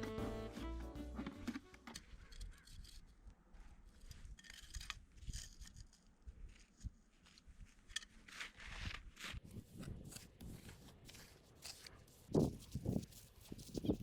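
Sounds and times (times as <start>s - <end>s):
faint scraping and rustling: 1.9s - 14.0s.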